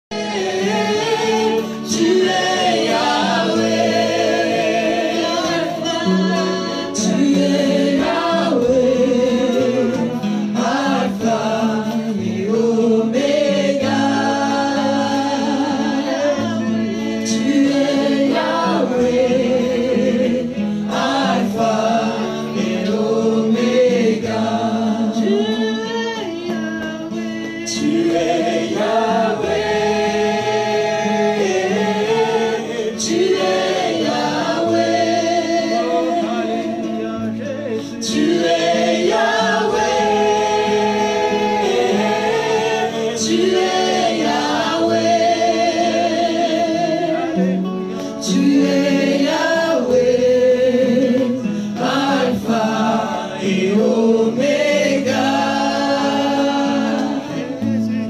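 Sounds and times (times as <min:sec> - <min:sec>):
other singers joining: 0:00.0 - 0:58.0
strummed acoustic guitar: 0:00.1 - 0:58.0
woman singing lead: 0:00.1 - 0:58.0.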